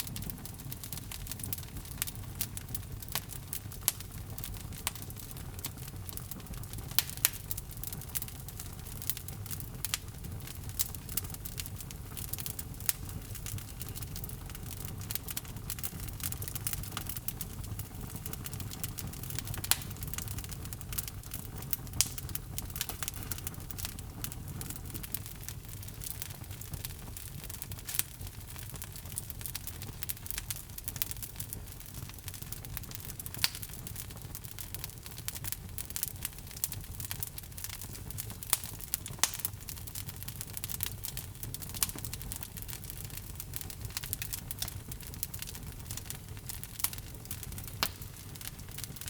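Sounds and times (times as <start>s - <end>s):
fire rumbling: 0.0s - 49.0s
wood crackling and popping: 0.0s - 49.0s.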